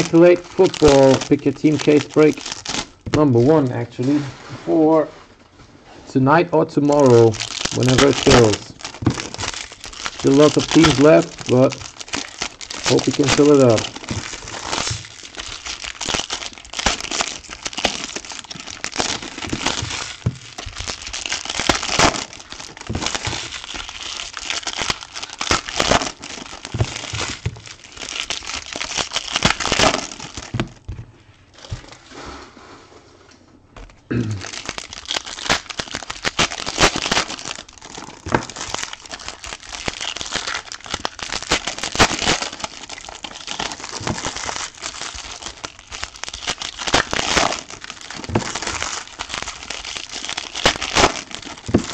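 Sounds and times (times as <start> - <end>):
foil wrappers tearing and crinkling: 0.0 - 3.8, 6.6 - 32.1, 33.8 - 51.9.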